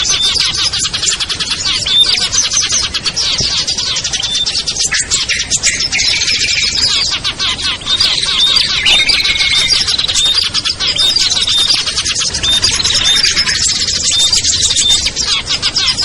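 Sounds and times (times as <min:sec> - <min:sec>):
small songbirds chirping and trilling: 0:00.0 - 0:16.0.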